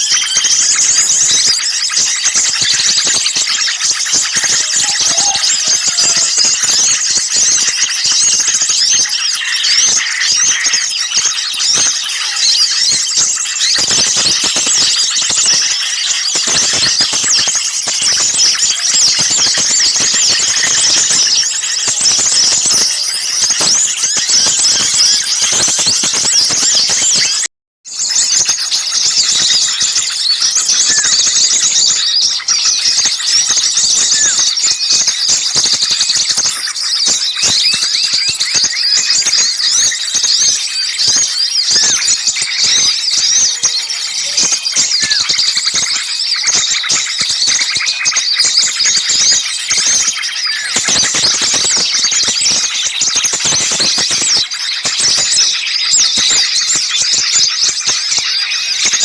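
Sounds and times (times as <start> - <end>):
songbirds chattering and calling: 0.0 - 59.0.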